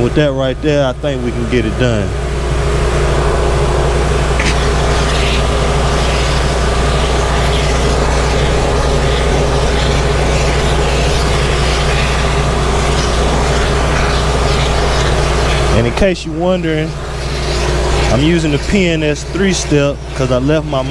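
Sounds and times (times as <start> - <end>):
shop vac motor hum: 0.0 - 20.9
rushing suction noise: 1.1 - 20.9.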